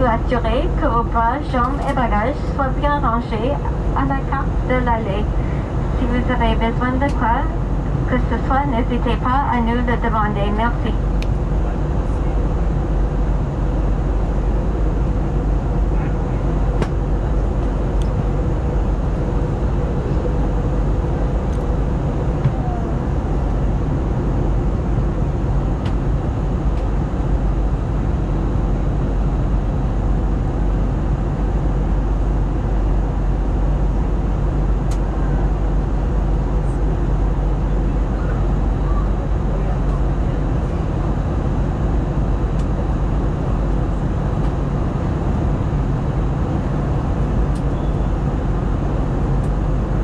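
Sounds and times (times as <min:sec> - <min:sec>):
airplane cabin engine drone: 0:00.0 - 0:50.0
faint steady hum: 0:00.0 - 0:50.0.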